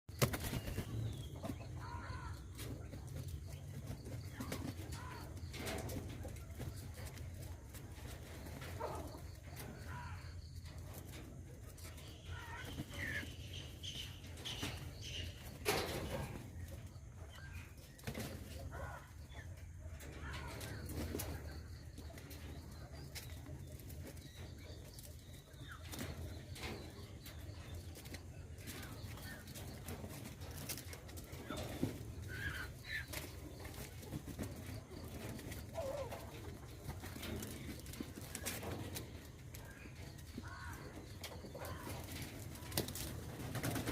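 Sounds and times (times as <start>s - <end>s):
birds calling: 0.1s - 43.9s.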